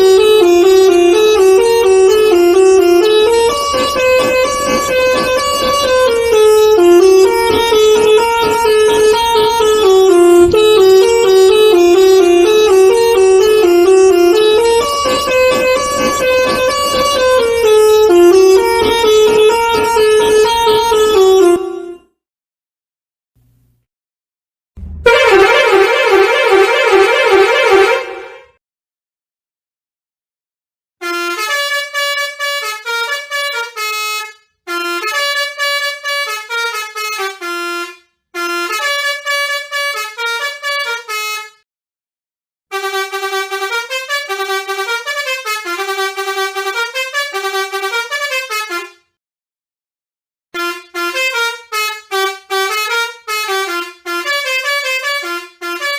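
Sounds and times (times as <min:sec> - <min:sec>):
bus air horn tune: 0:00.0 - 0:22.2, 0:24.8 - 0:28.6, 0:31.0 - 0:41.6, 0:42.7 - 0:49.2, 0:50.6 - 0:55.9.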